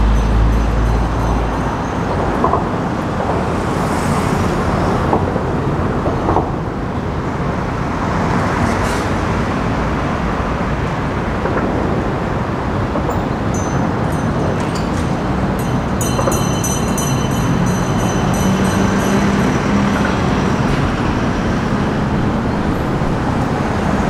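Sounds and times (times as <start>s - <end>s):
road traffic rushing: 0.0s - 24.0s.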